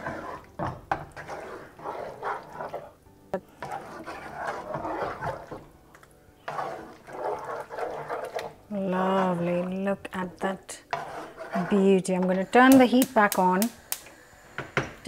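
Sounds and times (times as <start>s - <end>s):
spatula stirring wet food: 0.0s - 14.2s.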